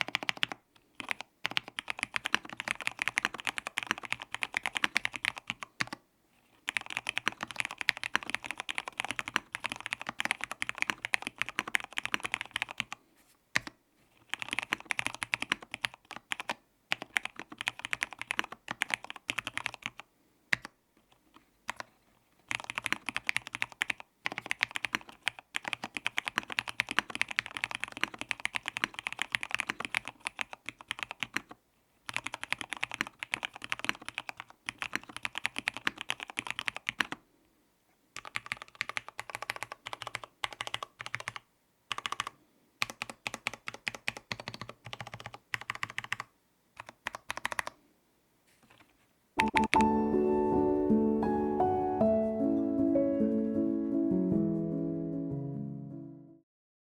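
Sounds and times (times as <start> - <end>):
mechanical keyboard typing: 0.0 - 6.0, 6.6 - 13.0, 13.6 - 37.2, 38.2 - 47.8, 48.7 - 50.0.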